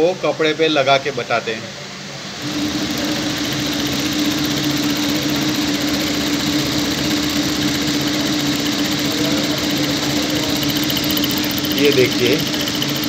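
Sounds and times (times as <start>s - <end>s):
sewing machine running: 2.4s - 13.0s.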